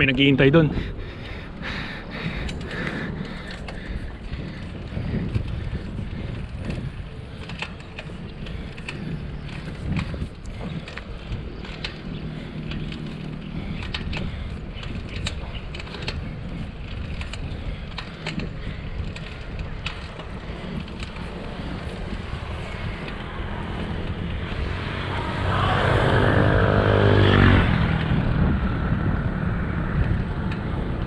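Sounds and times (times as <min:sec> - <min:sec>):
motor vehicle passing: 0:00.0 - 0:31.0
wind rumbling on microphone: 0:00.0 - 0:31.0.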